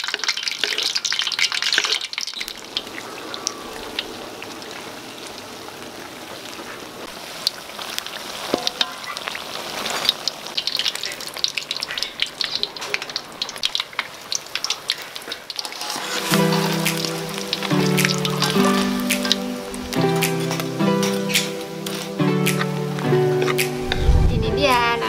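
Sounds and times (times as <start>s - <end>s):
batter sizzling in oil: 0.0s - 24.0s.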